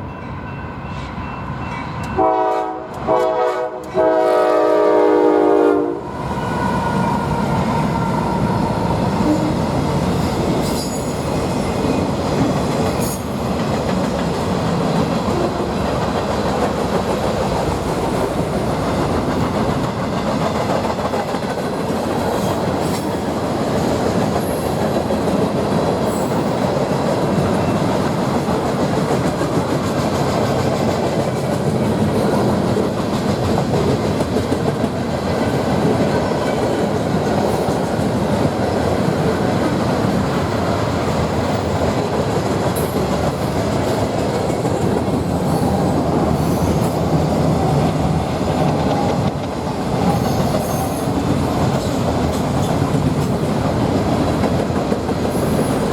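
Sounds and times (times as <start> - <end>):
freight train rolling past: 0.0 - 55.9
clicks of wheels on rail: 10.5 - 55.9.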